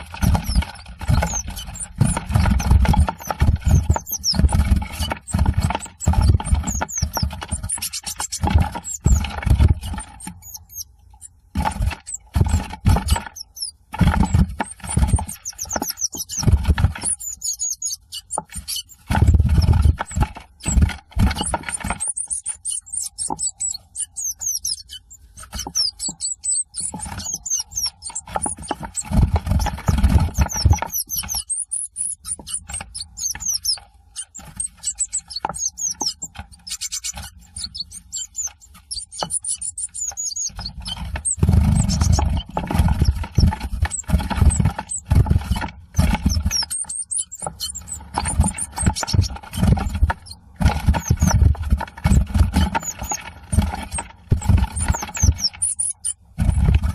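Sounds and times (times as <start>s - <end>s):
high thin bird calls: 0.0s - 11.4s, 13.2s - 20.8s, 21.4s - 51.5s
birds scuffling in nest box: 0.0s - 56.9s.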